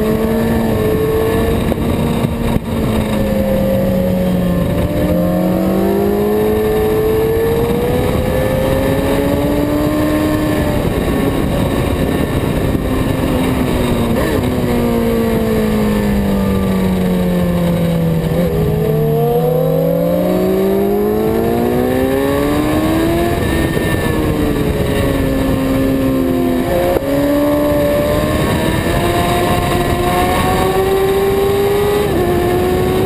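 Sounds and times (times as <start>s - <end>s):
motorcycle engine: 0.0s - 33.0s
wind rush over microphone: 0.0s - 33.0s.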